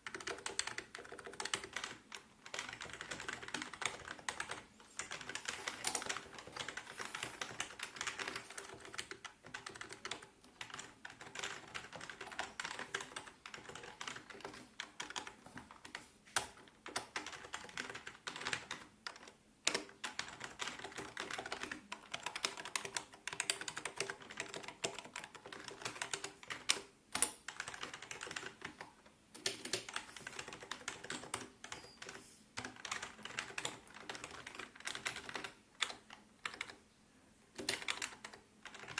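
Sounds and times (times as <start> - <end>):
typing on a keyboard: 0.0 - 36.8, 37.6 - 38.9.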